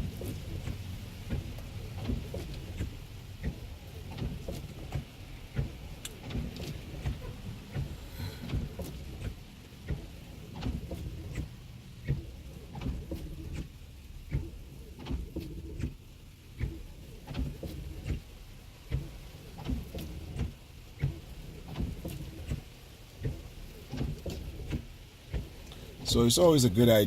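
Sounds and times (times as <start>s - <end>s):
low rumble of slow car: 0.0s - 27.0s
raindrops tapping on car glass: 0.0s - 27.0s.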